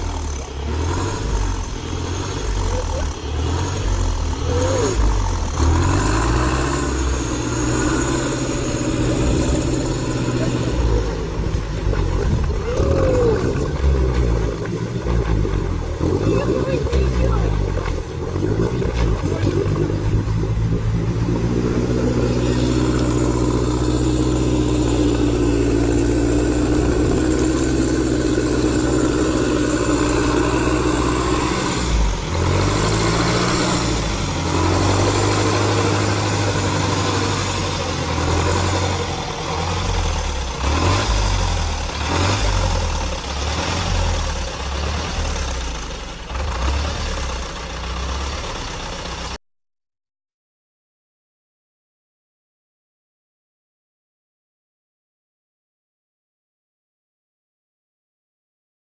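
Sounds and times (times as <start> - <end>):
vehicle engine running under load: 0.0 - 49.4.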